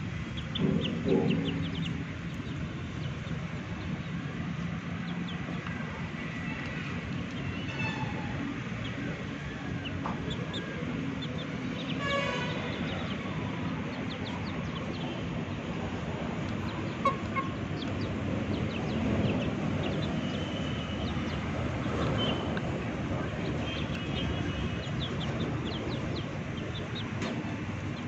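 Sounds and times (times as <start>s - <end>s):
chickens peeping and clucking: 0.0s - 28.0s.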